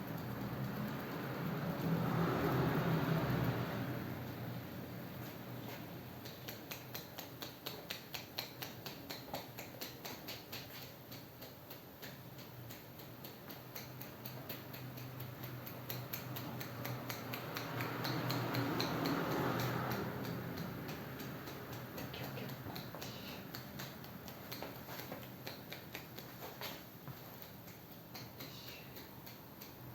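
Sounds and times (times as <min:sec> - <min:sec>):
fingertips tapping on scalp: 0:00.0 - 0:03.8, 0:05.6 - 0:29.9
steady low hum: 0:00.0 - 0:29.9.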